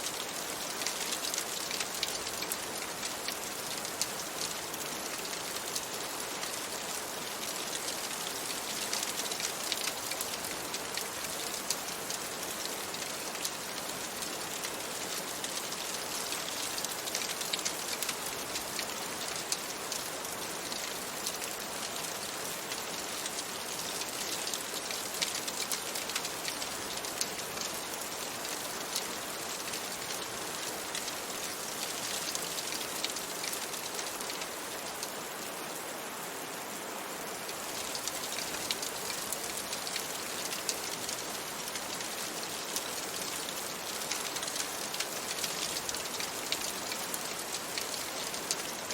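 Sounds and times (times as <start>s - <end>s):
rain on a window: 0.0s - 48.9s.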